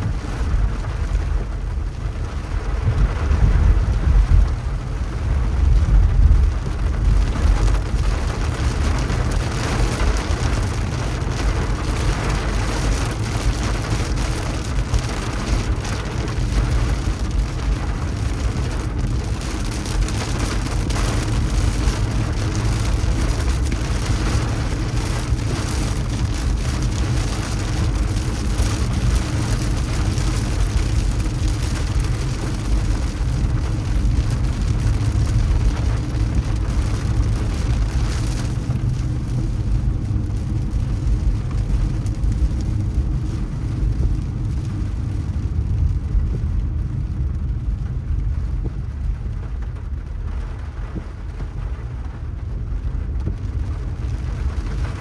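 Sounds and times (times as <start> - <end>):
car engine and tyres rumbling: 0.0 - 55.0
rain pattering on car: 0.0 - 55.0.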